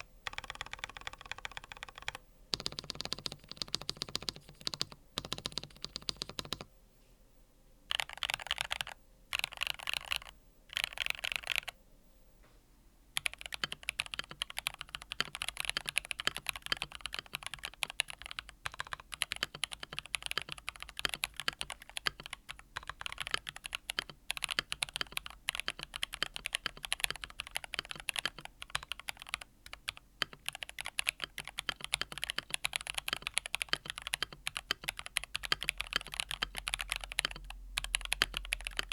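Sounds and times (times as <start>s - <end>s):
mechanical keyboard typing: 0.0s - 6.7s, 7.9s - 11.8s, 13.2s - 38.9s.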